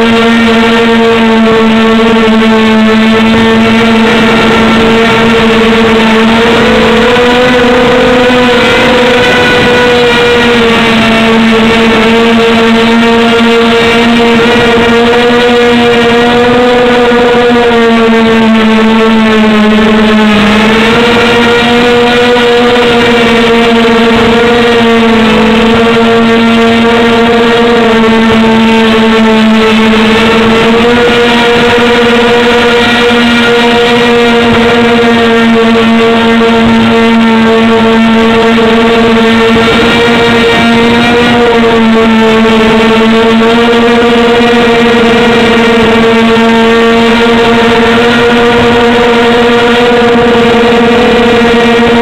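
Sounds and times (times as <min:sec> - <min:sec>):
quadcopter propellers whining: 0:00.0 - 0:52.0.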